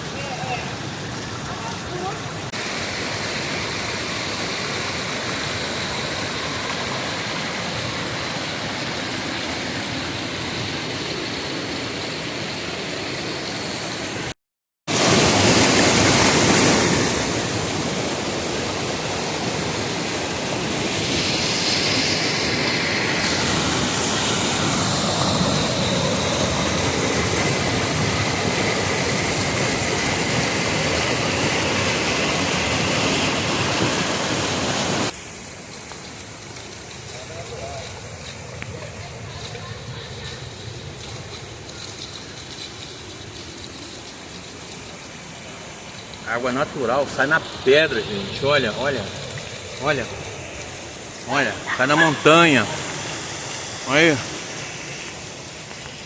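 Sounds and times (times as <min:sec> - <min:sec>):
waterfall rushing: 0:00.0 - 0:14.3, 0:14.9 - 0:56.0.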